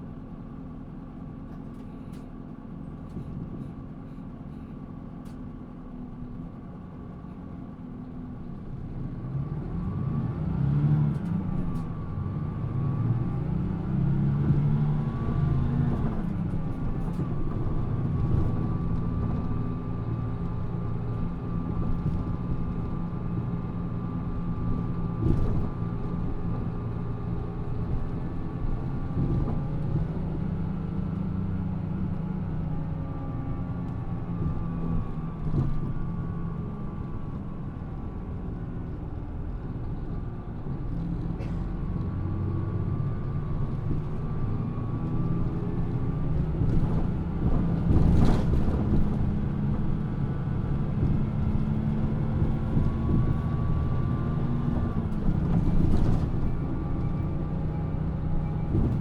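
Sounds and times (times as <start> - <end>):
bus diesel engine running: 0.0 - 10.4, 11.1 - 59.0.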